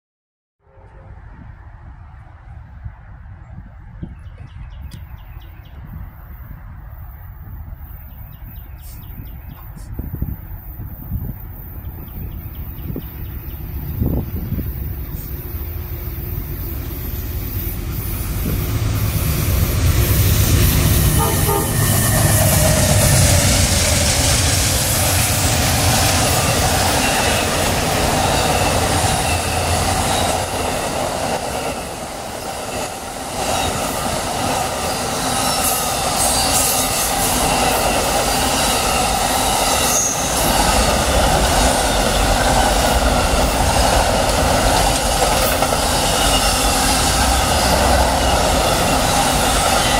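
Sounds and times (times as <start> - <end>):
train rumbling and rattling on rails: 0.8 - 49.9.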